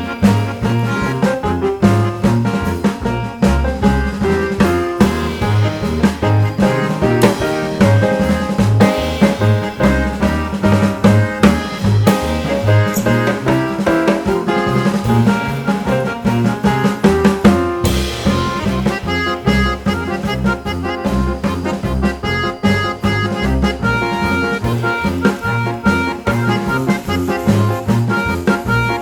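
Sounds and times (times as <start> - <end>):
music with drums and brass: 0.0 - 29.0.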